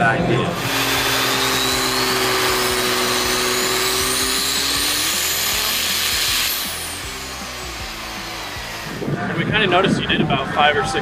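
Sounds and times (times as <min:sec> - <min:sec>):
diesel truck engine under load: 0:00.0 - 0:09.6
high turbo whine rising: 0:00.0 - 0:10.2.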